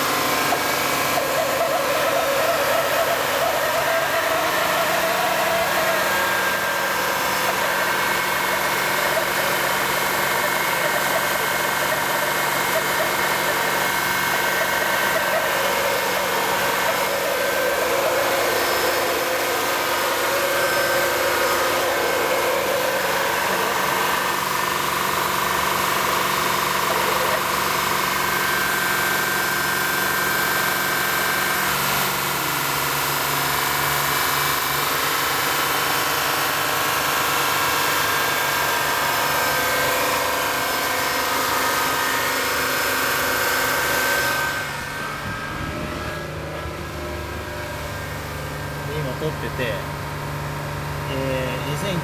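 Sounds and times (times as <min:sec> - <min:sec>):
car engine fast idle: 0:00.0 - 0:52.0
high constant whine: 0:00.0 - 0:52.0.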